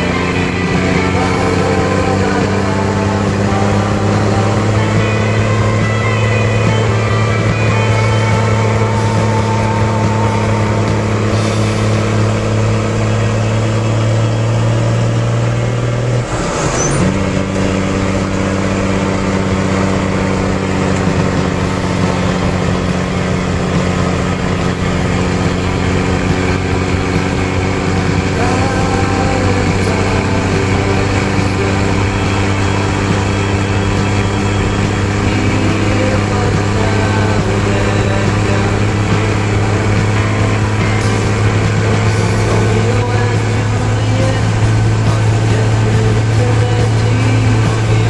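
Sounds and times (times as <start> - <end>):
truck diesel engine running: 0.0 - 48.0.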